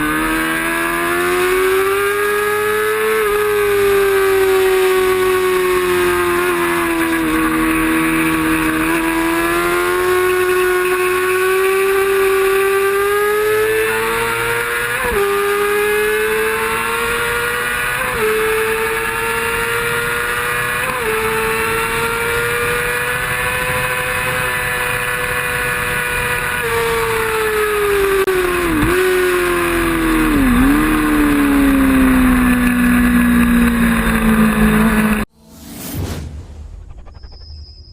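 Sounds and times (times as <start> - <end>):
motorcycle engine at high revs: 0.0 - 35.4.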